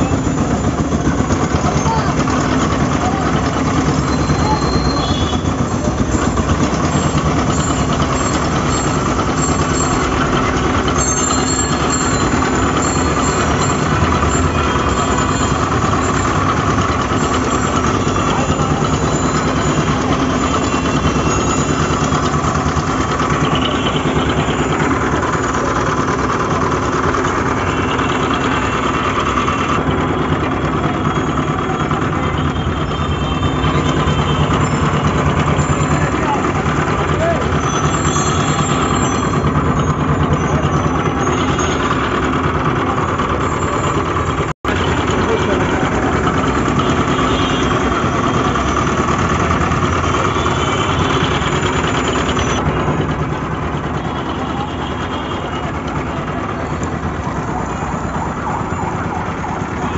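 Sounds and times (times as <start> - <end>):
sugarcane crusher machine humming: 0.0 - 59.9.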